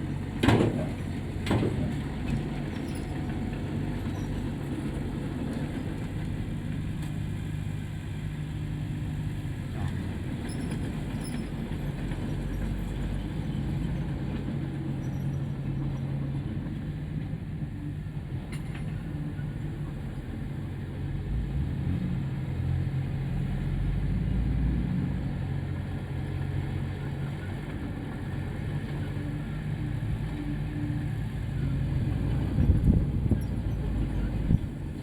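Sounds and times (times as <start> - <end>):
heavy diesel machinery running: 0.0 - 35.0.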